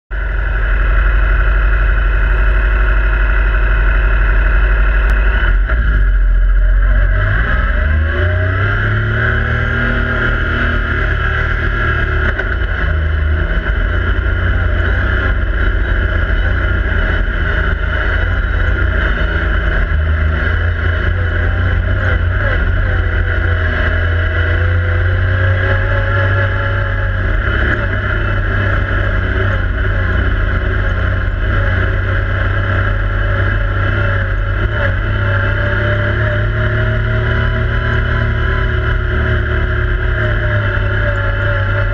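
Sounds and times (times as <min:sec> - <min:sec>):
engine running: 0:00.1 - 0:41.9.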